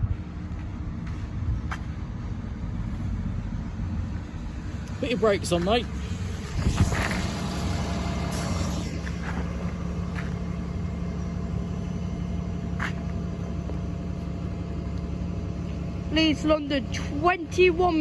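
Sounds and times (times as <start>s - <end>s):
steady hum: 0.0s - 18.0s
train rumbling: 0.0s - 18.0s.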